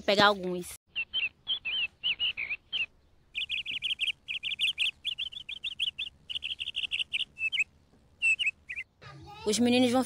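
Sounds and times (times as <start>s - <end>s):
bird chirping: 0.9s - 9.1s.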